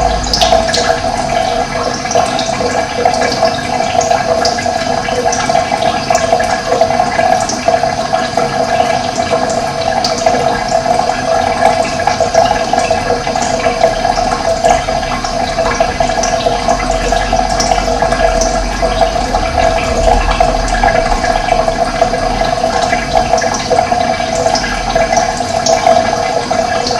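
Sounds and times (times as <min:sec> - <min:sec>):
water rushing: 0:00.0 - 0:26.9.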